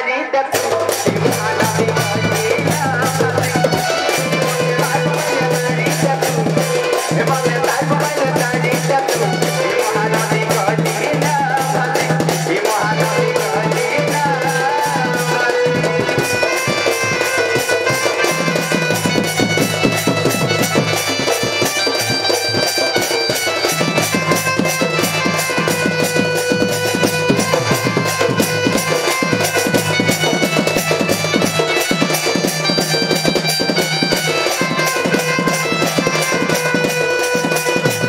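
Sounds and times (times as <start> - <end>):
fast drumming: 0.5 - 38.0.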